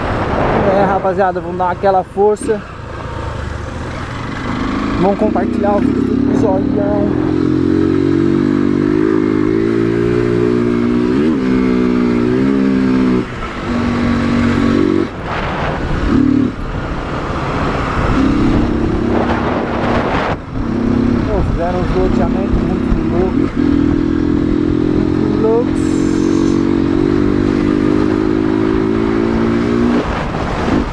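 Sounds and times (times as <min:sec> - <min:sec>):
rushing wind: 0:00.0 - 0:30.9
motorcycle engine revving: 0:02.3 - 0:30.9.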